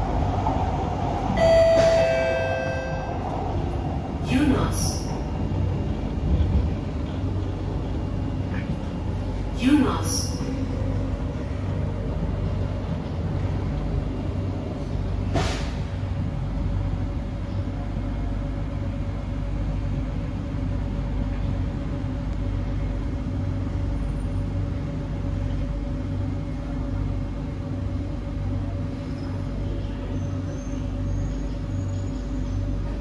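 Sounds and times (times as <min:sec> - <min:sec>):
constant hum: 0:00.0 - 0:33.0
train wheels rumbling on rails: 0:00.0 - 0:33.0.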